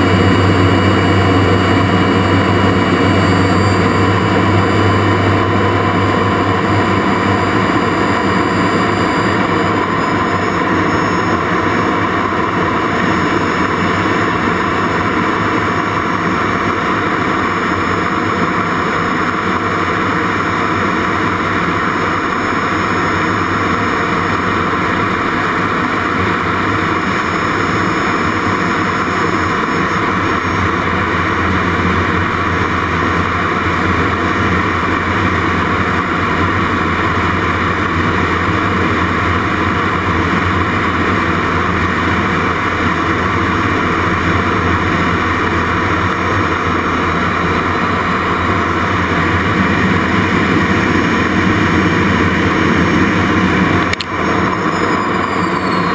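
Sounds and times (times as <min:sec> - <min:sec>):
faint high whine: 0:00.0 - 0:55.9
jet engine and air rush in cockpit: 0:00.0 - 0:55.9.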